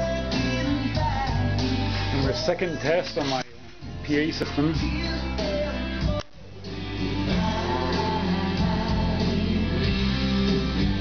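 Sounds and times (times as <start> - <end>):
heavy bass from subwoofers: 0.0 - 2.4, 3.8 - 11.0
guitar and singing over pa: 0.0 - 3.6, 4.2 - 11.0.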